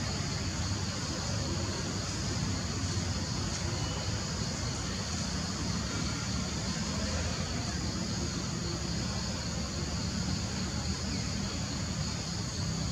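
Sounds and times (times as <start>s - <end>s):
constant high hiss: 0.0s - 12.9s.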